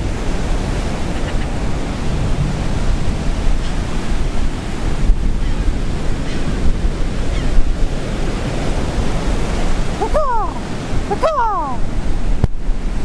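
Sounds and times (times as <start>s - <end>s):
rough sea surf breaking: 0.0s - 13.0s
wind rumbling on microphone: 0.0s - 13.0s.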